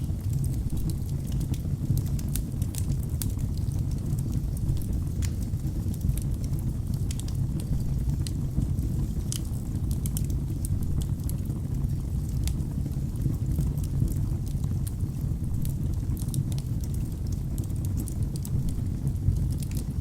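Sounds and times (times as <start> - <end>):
fire rumbling: 0.0 - 20.0
logs crackling and popping: 0.0 - 20.0.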